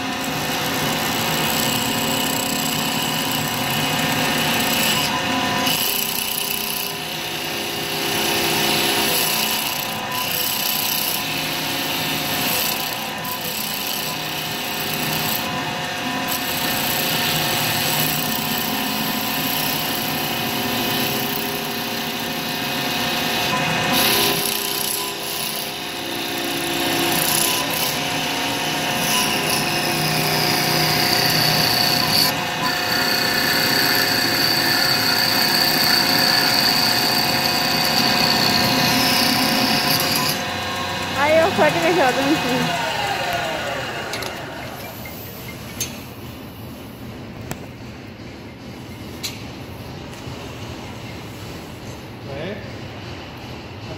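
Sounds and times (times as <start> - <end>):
wood lathe machine whine: 0.0 - 45.5.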